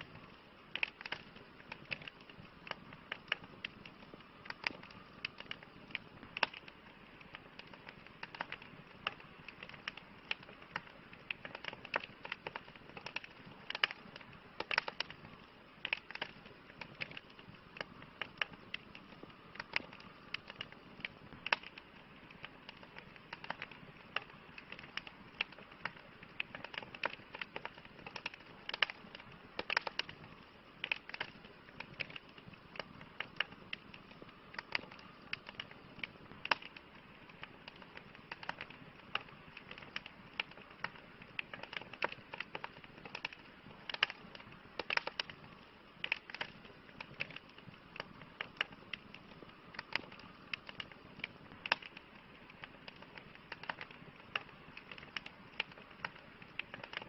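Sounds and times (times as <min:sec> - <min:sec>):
campfire crackling and popping: 0:00.0 - 0:57.0
fire soft hiss: 0:00.0 - 0:57.0.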